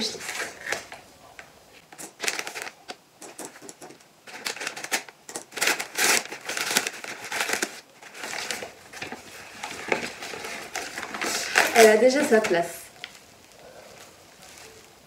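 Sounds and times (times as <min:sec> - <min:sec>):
paper bag crinkling and rustling: 0:00.0 - 0:01.0, 0:01.8 - 0:15.0.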